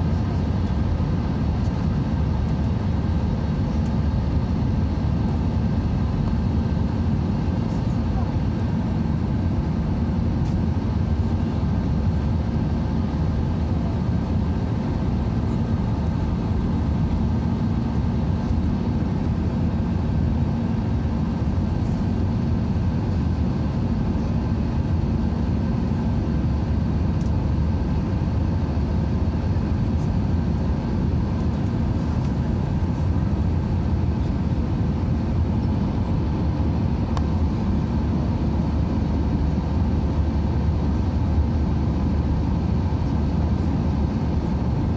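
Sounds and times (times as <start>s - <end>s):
jet engine drone: 0.0s - 44.9s.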